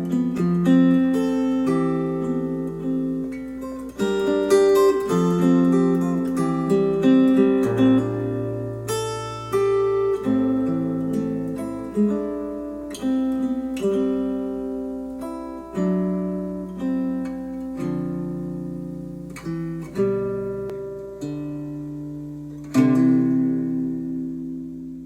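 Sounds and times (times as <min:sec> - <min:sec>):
acoustic guitar chords strummed: 0:00.0 - 0:25.0.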